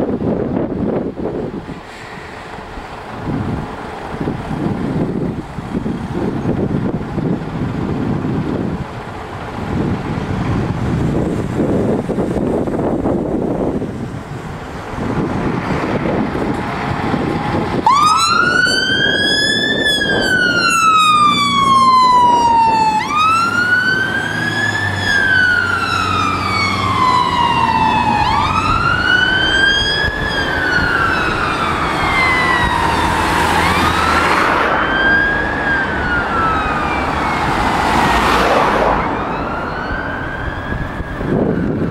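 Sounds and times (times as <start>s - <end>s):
diesel engine pulling away: 0.0s - 41.9s
fire engine siren wailing: 2.5s - 41.9s.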